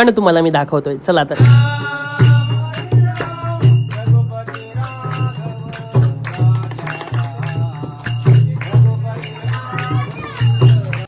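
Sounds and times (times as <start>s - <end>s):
drum and hand cymbal beat: 1.4s - 11.0s.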